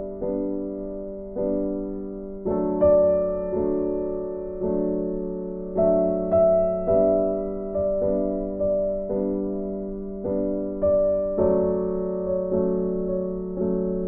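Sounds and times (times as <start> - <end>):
soft keyboard chords: 0.0 - 14.0.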